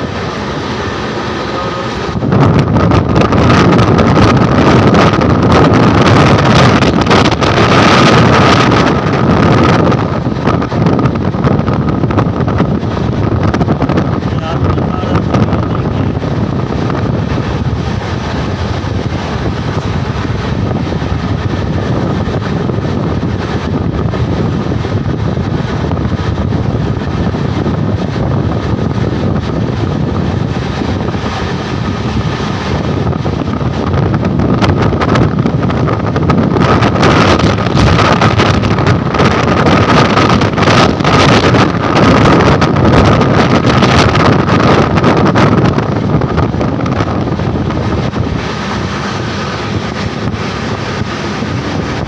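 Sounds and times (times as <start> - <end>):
train running noise: 0.0 - 52.0
wind buffeting microphone: 0.0 - 52.0.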